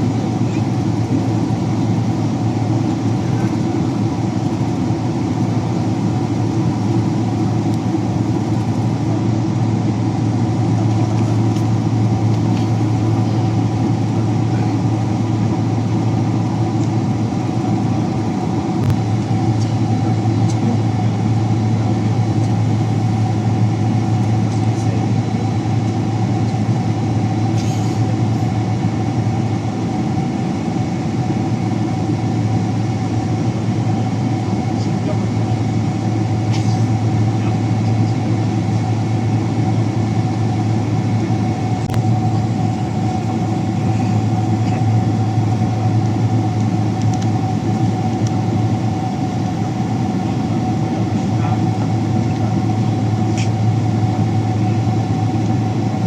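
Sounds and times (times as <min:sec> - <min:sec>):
airliner cabin hum: 0:00.0 - 0:56.0.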